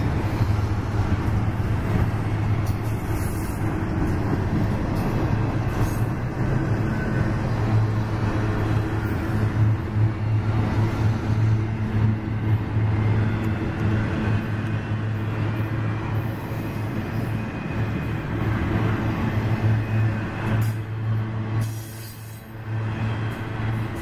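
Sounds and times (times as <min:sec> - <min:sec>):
freight train wheels rumbling on rails: 0:00.0 - 0:24.0.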